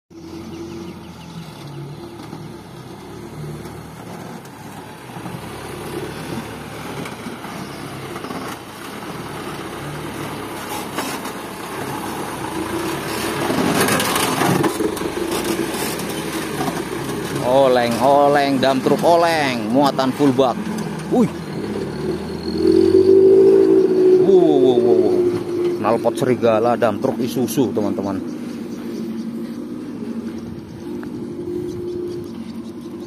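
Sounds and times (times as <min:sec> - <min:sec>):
dump truck diesel engine driving: 0:00.1 - 0:33.0.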